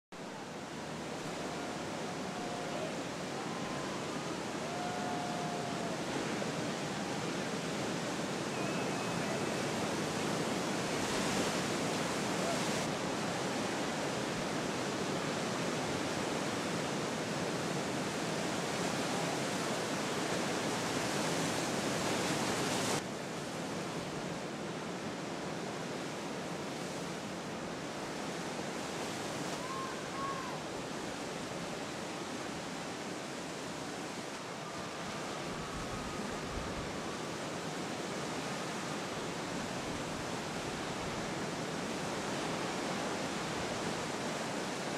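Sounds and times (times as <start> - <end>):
wind: 0.1 - 44.9.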